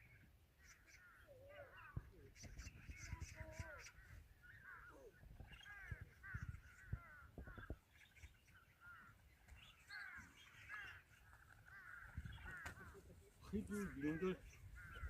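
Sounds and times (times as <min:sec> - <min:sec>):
faint bird calls: 0:00.0 - 0:15.0.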